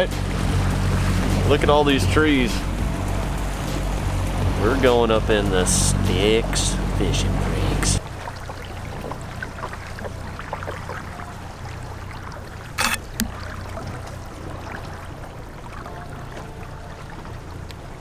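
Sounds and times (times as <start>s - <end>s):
low motor hum: 0.0s - 18.0s
water lapping along boat hull: 0.0s - 18.0s.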